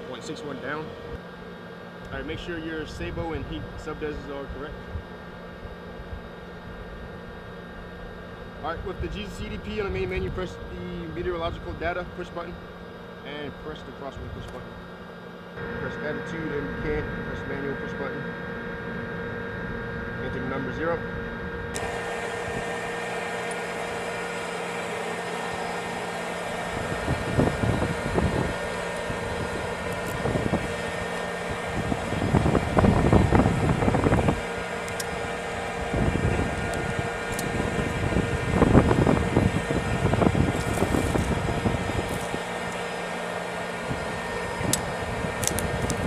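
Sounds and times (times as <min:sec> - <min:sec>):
tank engine idling with whine: 0:00.0 - 0:46.0.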